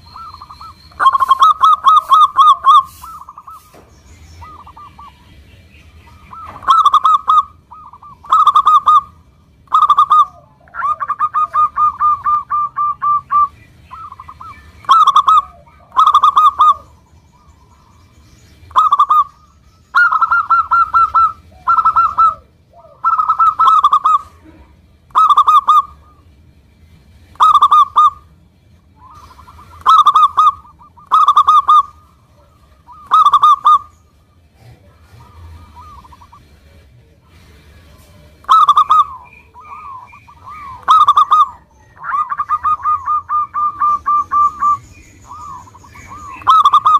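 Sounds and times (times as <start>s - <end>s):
dove cooing: 0.0s - 18.0s, 18.6s - 26.4s, 27.3s - 46.9s.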